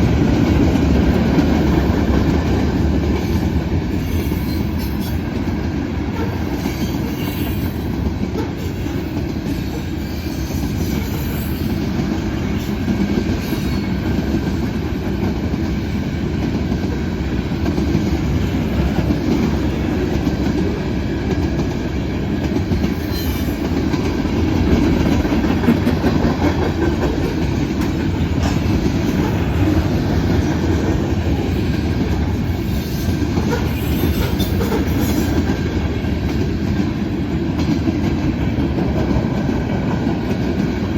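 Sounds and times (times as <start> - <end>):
clickety-clack over rail joints: 0.0 - 40.9
train wheels rumbling: 0.0 - 40.9.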